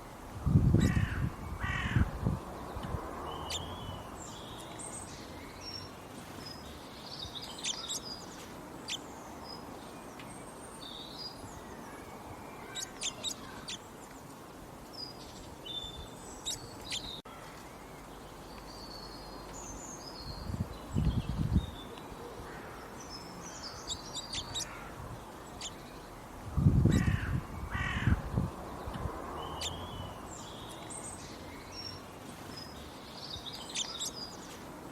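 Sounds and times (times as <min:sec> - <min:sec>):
outdoor background hiss: 0:00.0 - 0:34.9
small birds chirping: 0:00.6 - 0:34.9.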